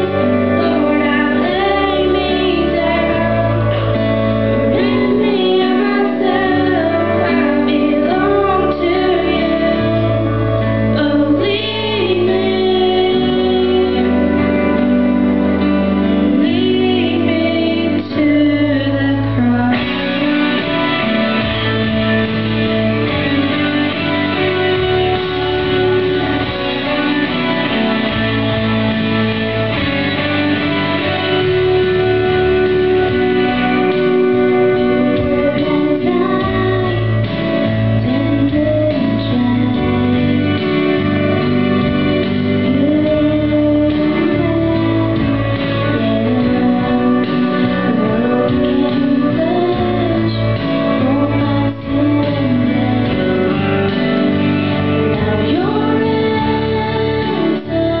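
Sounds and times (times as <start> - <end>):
girls singing into microphones: 0.0 - 14.8, 16.3 - 41.4, 42.0 - 58.0
guitar accompaniment: 0.0 - 58.0.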